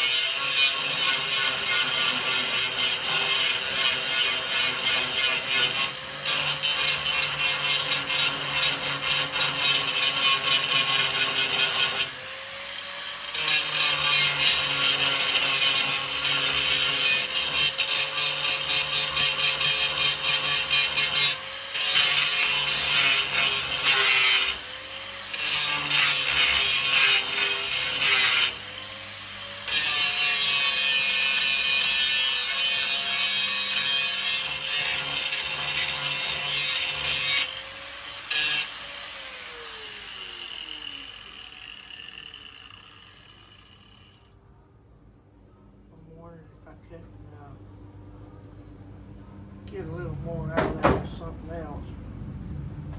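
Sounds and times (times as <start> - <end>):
angle grinder grinding metal: 0.0 - 44.4.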